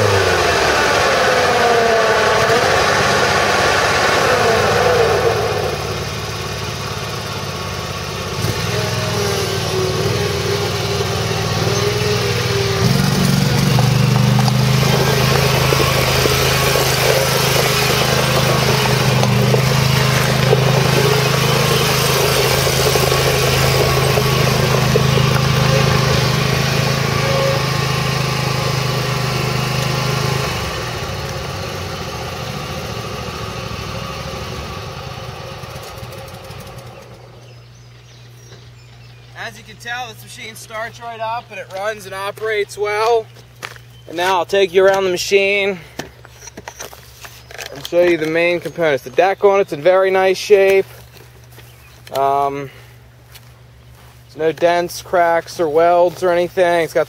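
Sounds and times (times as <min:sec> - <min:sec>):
mower engine running: 0:00.0 - 0:57.0.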